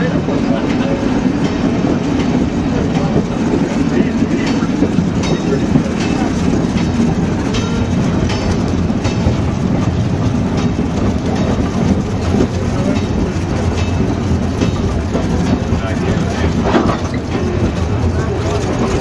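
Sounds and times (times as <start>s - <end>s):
railroad car rumbling: 0.0s - 19.0s
wheels clicking over rail joints: 0.0s - 19.0s.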